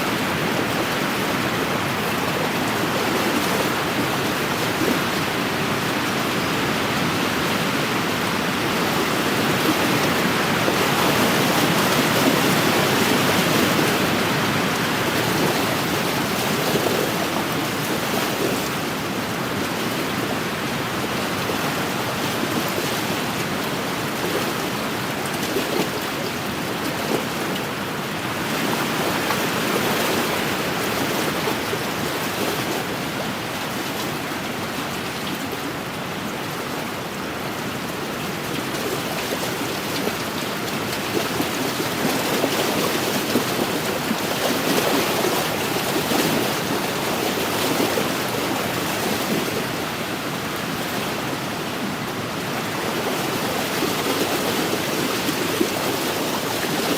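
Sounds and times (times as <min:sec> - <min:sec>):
waves lapping on shore: 0:00.0 - 0:56.9.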